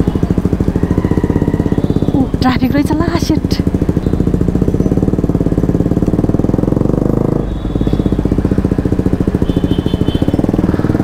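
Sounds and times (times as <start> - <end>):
motorcycle engine pulsing: 0.0 - 11.0.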